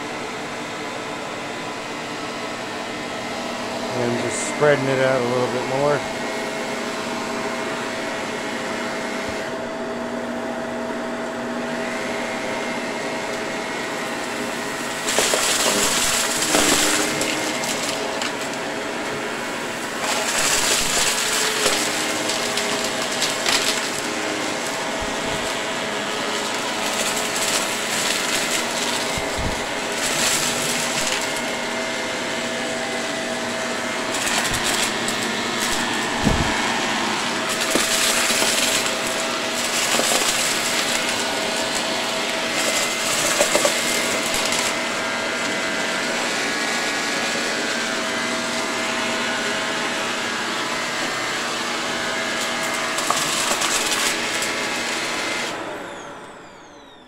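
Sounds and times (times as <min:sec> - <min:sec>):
vacuum cleaner motor whine: 0:00.0 - 0:57.0
debris clattering in vacuum: 0:03.9 - 0:06.1, 0:11.8 - 0:55.6.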